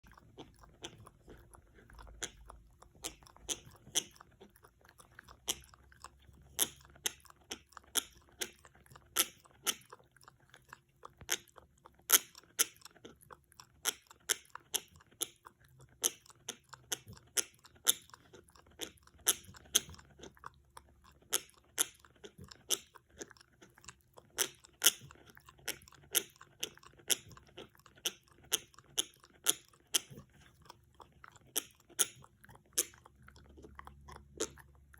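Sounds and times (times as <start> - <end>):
dog gnawing on antler: 0.0 - 34.9.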